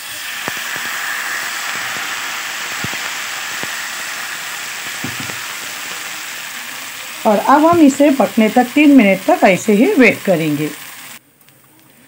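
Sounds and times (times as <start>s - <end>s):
batter sizzling on a griddle: 0.0s - 11.2s.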